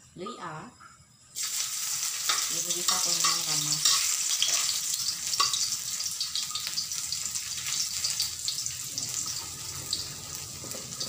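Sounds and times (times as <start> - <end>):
ginger sizzling in hot oil: 1.4 - 11.0.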